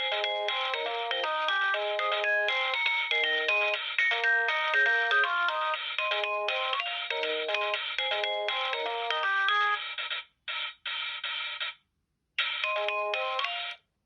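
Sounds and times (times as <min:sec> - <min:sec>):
synthesized ringtone melody: 0:00.0 - 0:10.1, 0:12.4 - 0:13.8.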